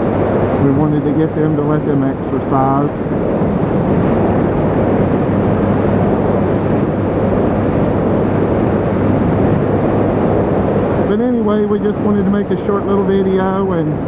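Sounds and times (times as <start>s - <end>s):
motorcycle engine humming: 0.0s - 14.0s
wind rushing over microphone: 0.0s - 14.0s.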